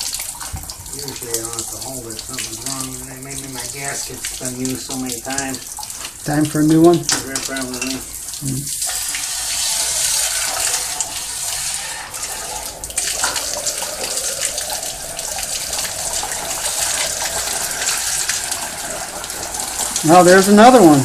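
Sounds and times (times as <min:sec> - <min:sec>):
water spraying inside boiler: 0:00.0 - 0:21.0.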